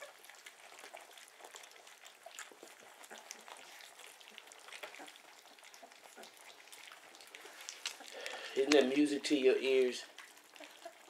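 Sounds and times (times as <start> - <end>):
puppies lapping food: 0.0 - 11.0.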